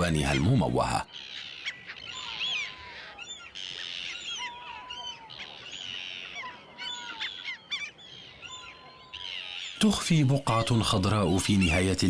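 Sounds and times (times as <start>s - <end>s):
seabird colony calling: 0.0s - 12.0s.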